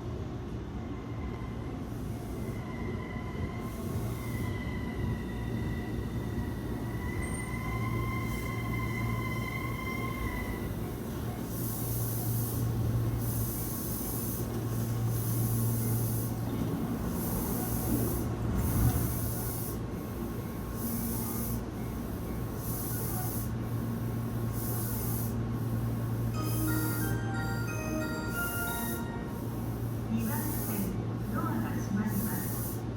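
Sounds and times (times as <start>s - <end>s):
train electrical hum: 0.0s - 32.9s.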